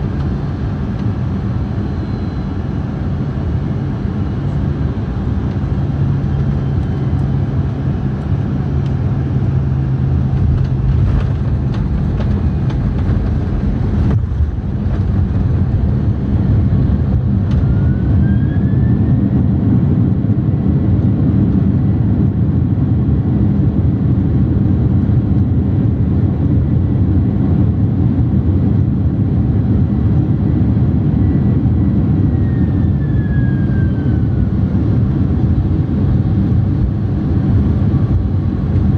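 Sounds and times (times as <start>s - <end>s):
airliner cabin rumble: 0.0s - 38.9s
jet engine whine: 0.0s - 38.9s.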